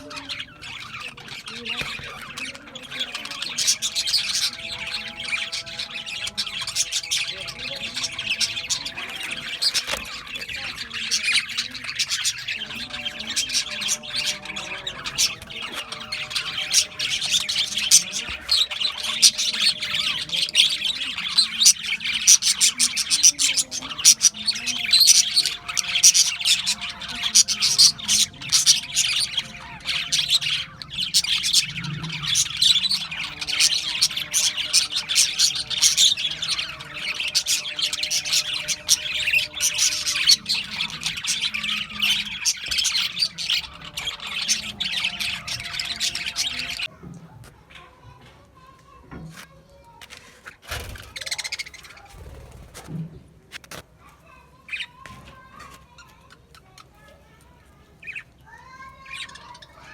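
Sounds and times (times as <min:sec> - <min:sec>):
budgerigars chirping and chattering: 0:00.0 - 0:53.0, 0:53.6 - 0:59.9.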